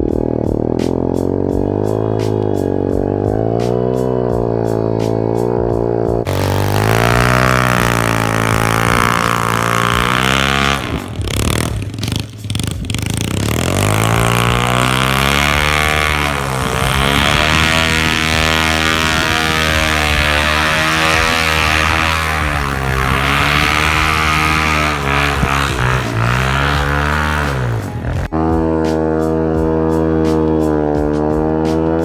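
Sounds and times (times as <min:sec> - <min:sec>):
motorcycle engine revving hard: 0:00.0 - 0:32.0.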